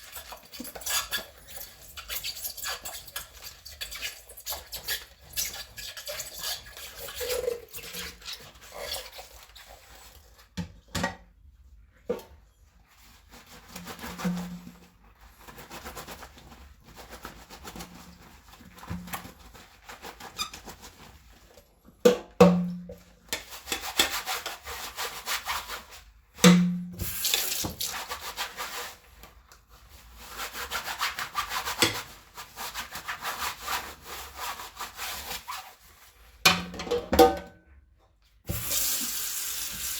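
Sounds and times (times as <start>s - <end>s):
sponge scrubbing plates: 0.0s - 10.6s, 12.1s - 21.6s, 22.4s - 36.2s.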